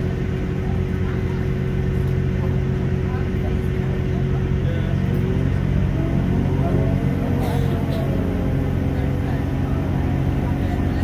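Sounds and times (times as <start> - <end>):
train engine drone: 0.0 - 11.0
train transmission whine: 0.0 - 11.0.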